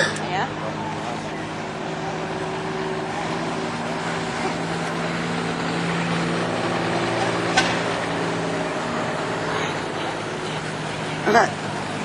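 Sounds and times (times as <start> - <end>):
truck engine passing: 0.0 - 12.0.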